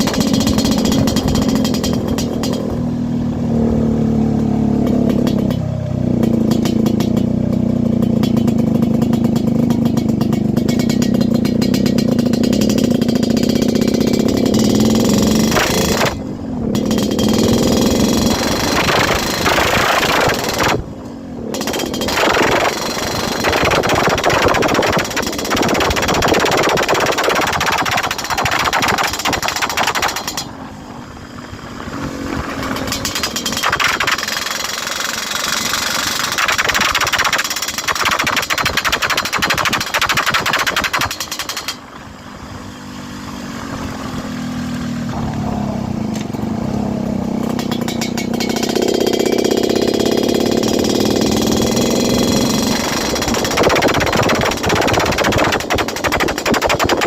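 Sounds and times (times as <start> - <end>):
crackling exhaust rattle: 0.0 - 3.1, 4.9 - 42.2, 44.9 - 57.0
two-stroke motorcycle engine revving: 0.0 - 57.0.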